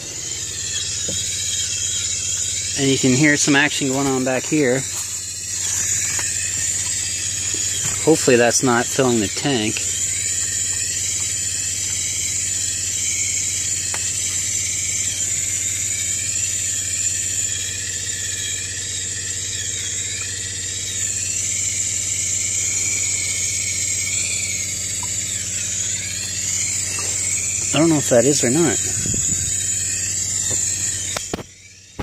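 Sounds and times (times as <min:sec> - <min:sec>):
plumbing hissing and squealing: 0:00.0 - 0:32.0
water pump humming: 0:00.0 - 0:32.0.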